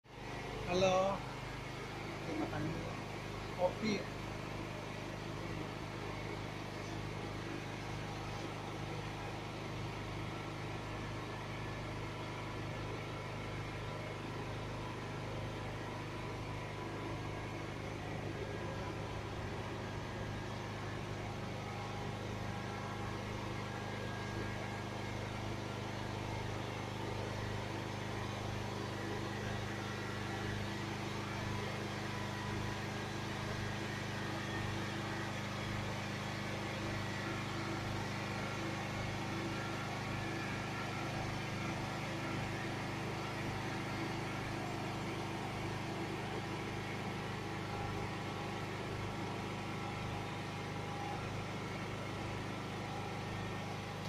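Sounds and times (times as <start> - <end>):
steady mechanical hum: 0.1 - 54.0.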